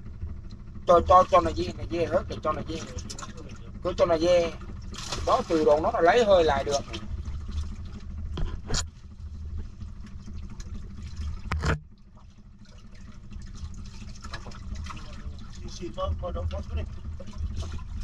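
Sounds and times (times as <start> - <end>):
steady low hum: 0.0 - 18.0
underwater water noise: 0.0 - 18.0.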